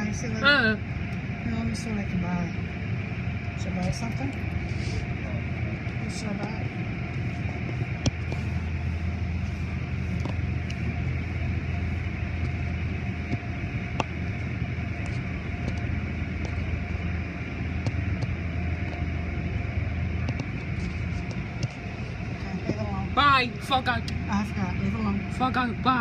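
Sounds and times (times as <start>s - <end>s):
steady low drone: 0.0s - 26.0s.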